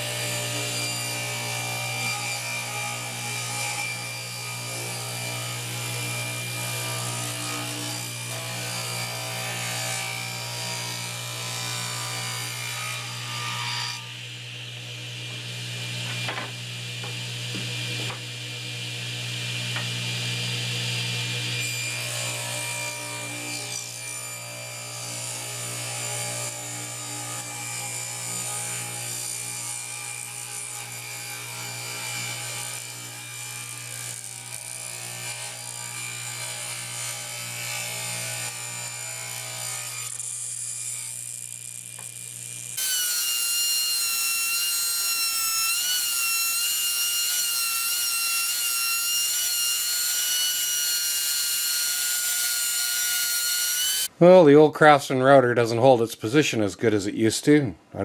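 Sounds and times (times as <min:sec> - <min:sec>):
table saw cutting wood: 0:00.0 - 0:54.2.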